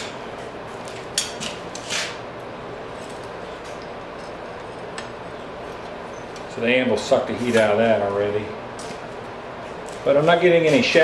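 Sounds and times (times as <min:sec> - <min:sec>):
workshop background hiss: 0:00.0 - 0:11.0.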